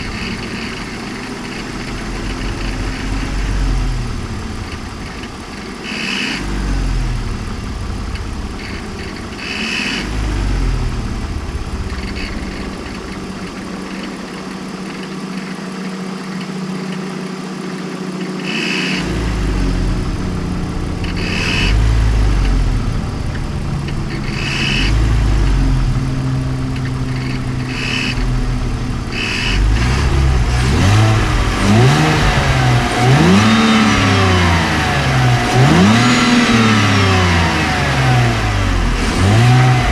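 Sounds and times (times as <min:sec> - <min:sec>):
car engine idling with throttle blips: 0:00.0 - 0:39.9.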